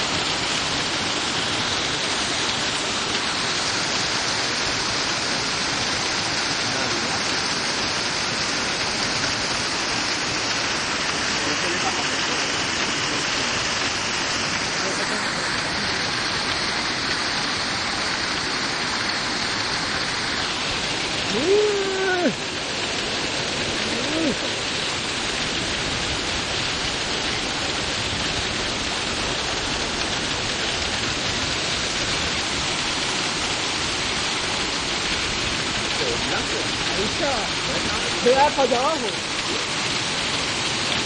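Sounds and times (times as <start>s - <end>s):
heavy rain and hail: 0.0s - 41.0s.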